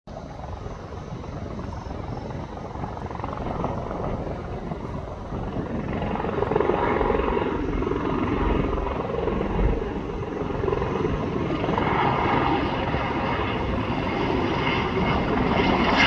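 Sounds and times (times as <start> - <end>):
helicopter rotor beating: 0.1 - 16.0.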